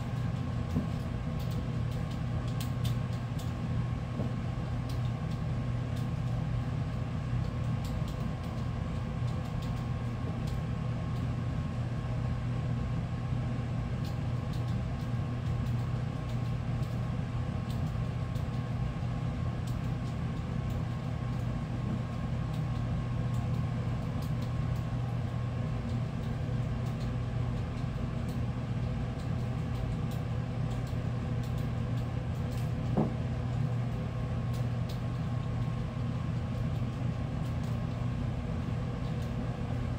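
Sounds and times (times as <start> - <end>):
faint steady whine: 0.0 - 39.9
low mechanical hum: 0.0 - 39.9.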